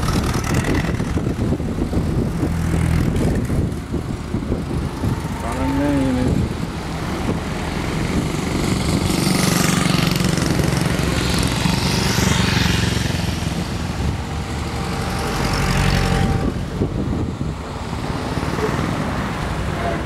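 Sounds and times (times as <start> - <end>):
military trucks driving past: 0.0 - 20.0.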